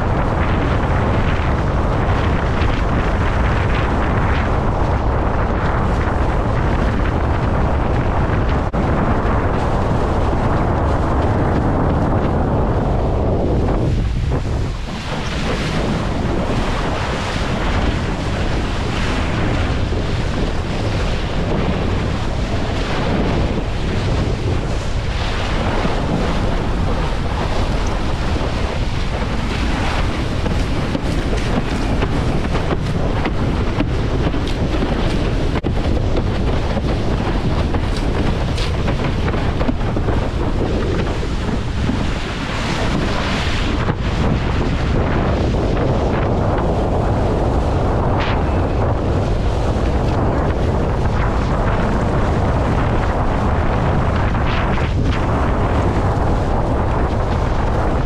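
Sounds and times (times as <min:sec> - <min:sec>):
water splashing under board: 0:00.0 - 0:58.0
wind buffeting microphone: 0:00.0 - 0:58.0.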